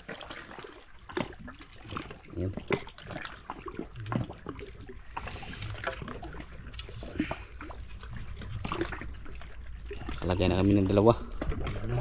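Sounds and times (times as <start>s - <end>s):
knocks and splashes: 0.0s - 12.0s
water sloshing and trickling: 0.0s - 12.0s.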